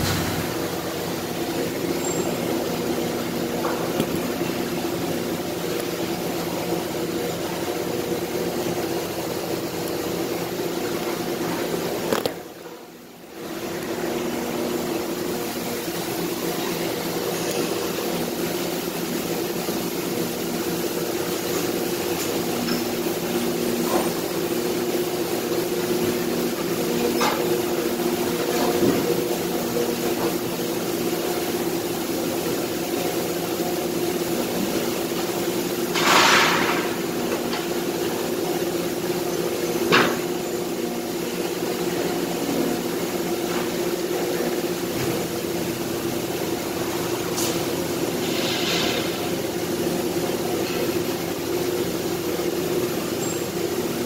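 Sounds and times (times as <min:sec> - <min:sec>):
factory machinery droning: 0:00.0 - 0:54.0.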